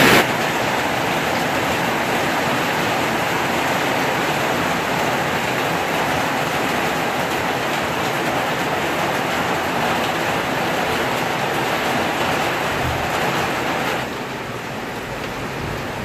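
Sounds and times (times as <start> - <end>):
rain on a wooden roof: 0.0 - 16.0.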